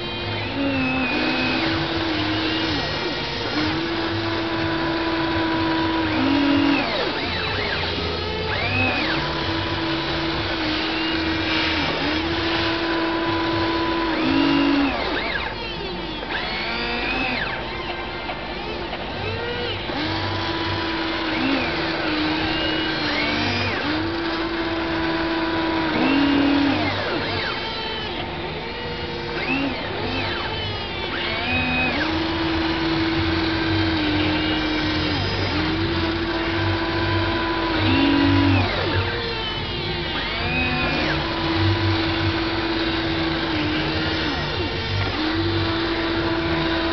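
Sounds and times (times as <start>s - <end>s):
toy electric motors whining: 0.0s - 46.9s.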